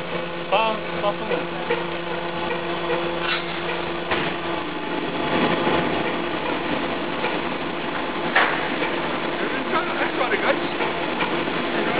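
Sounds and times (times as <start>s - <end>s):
extruder machine running: 0.0s - 11.9s.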